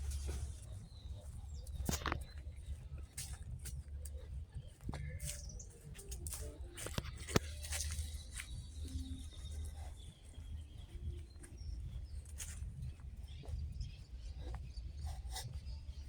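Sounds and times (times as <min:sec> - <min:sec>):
faint bird chirps: 0:00.0 - 0:16.0
steady low rumble: 0:00.0 - 0:16.0.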